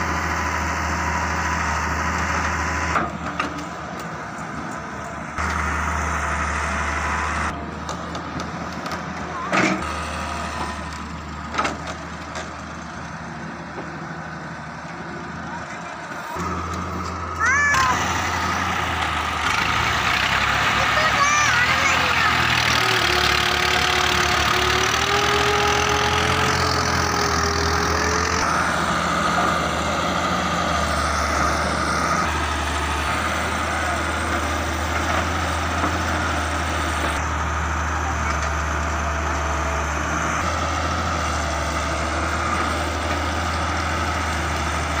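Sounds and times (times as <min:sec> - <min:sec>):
diesel engines running: 0:00.0 - 0:45.0
excavator loading sand: 0:00.0 - 0:45.0.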